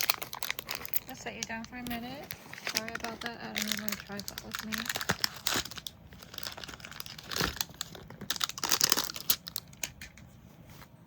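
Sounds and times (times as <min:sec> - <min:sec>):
plastic crinkling: 0:00.0 - 0:10.4.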